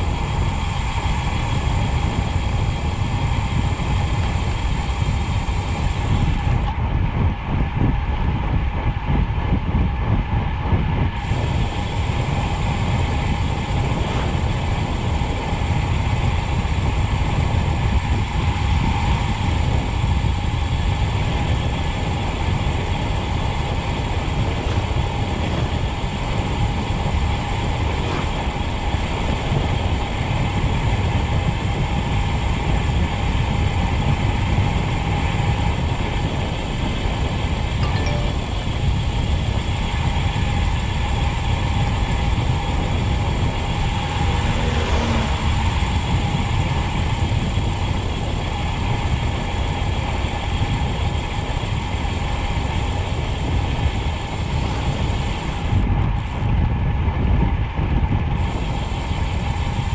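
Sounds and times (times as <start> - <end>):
bicycle freehub buzzing: 0.0 - 59.9
wind rushing over microphone: 0.0 - 59.9
tyres rolling on rough asphalt: 11.2 - 59.9.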